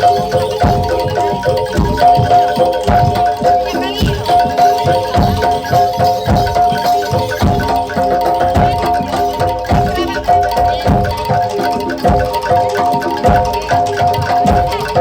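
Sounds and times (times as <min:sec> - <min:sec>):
bronze metallophones ringing: 0:00.0 - 0:15.0
low drum beats: 0:00.0 - 0:15.0.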